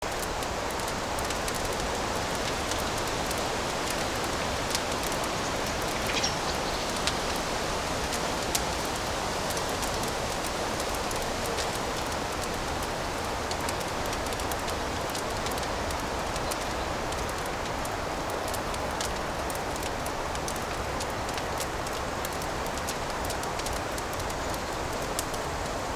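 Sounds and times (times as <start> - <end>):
fire crackling and popping: 0.0 - 25.9
fire hissing: 0.1 - 25.9.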